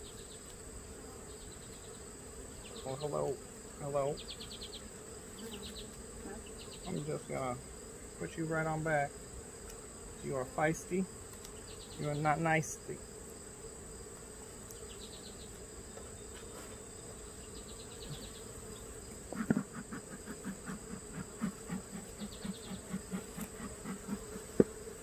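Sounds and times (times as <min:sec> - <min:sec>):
bees buzzing: 0:00.0 - 0:25.0
pulsing loud bee buzz: 0:00.0 - 0:25.0.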